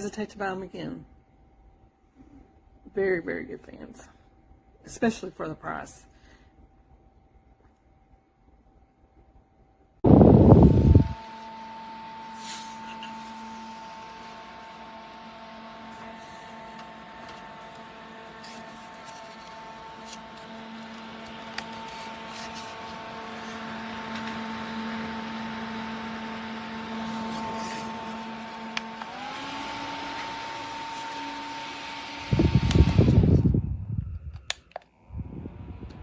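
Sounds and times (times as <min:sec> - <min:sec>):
small fan motor whine and hum: 0:00.0 - 0:36.0.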